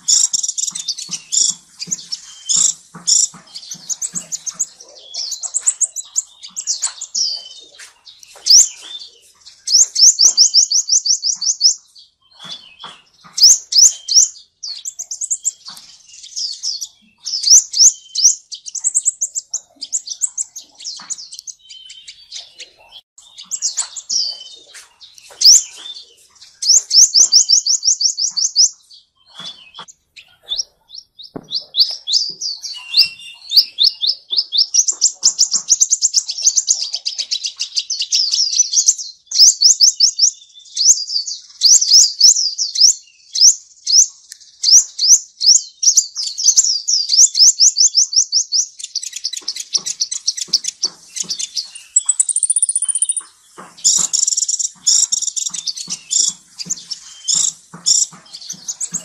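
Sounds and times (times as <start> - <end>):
bird trilling: 0.0 - 40.2, 47.1 - 59.0.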